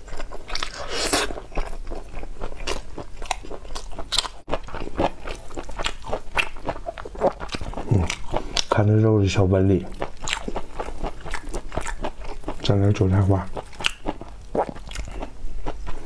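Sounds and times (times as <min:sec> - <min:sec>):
person chewing meat: 0:00.0 - 0:08.9, 0:09.8 - 0:16.0.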